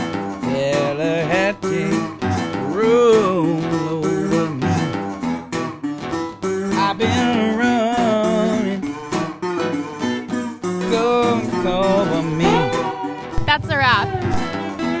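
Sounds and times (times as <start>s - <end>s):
guitar-led song: 0.0s - 15.0s.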